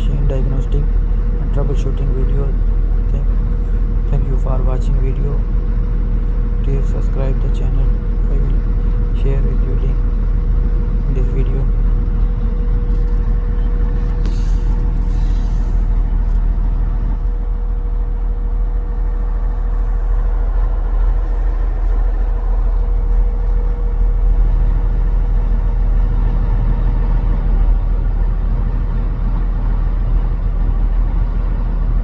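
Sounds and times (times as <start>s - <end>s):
constant engine whine: 0.0s - 32.0s
diesel engine idling: 0.0s - 32.0s.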